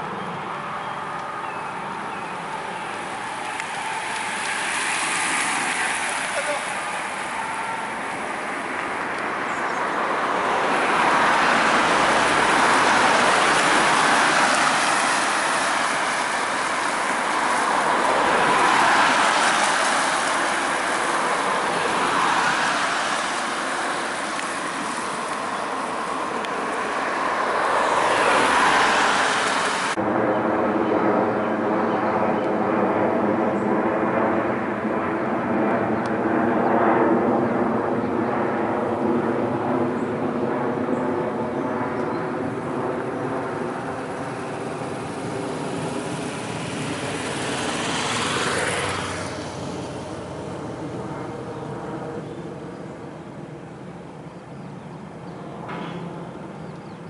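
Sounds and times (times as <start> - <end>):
road vehicles passing: 0.0 - 57.0.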